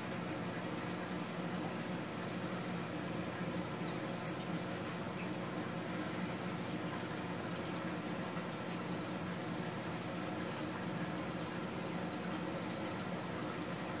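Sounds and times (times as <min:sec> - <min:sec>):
water trickling and bubbling: 0:00.0 - 0:14.0.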